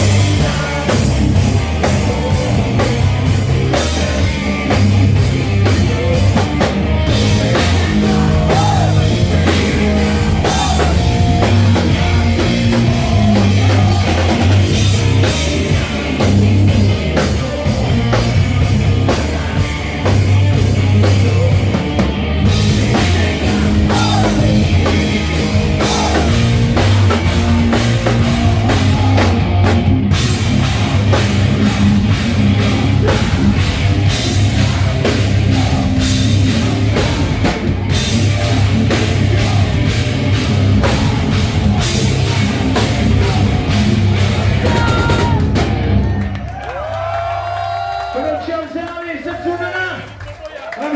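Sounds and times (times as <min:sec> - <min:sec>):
rock band playing: 0:00.0 - 0:47.7
driving drum kit: 0:00.0 - 0:50.2.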